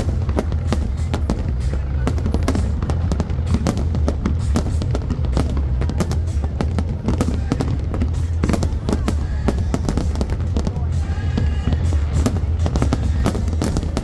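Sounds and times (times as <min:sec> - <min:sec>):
fireworks crackling and popping: 0:00.0 - 0:14.0
low rumble of fireworks booms: 0:00.0 - 0:14.0.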